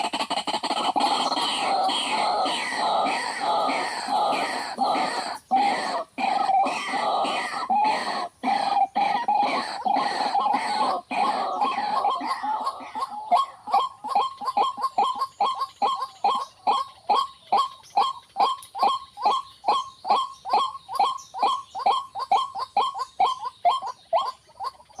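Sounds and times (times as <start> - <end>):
waterhen calling: 0.0 - 25.0.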